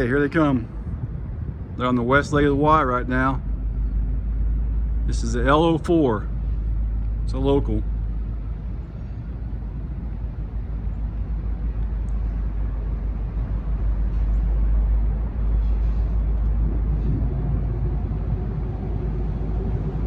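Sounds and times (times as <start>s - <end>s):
diesel locomotive engine rumble: 0.0s - 20.0s
steady engine drone: 0.0s - 20.0s.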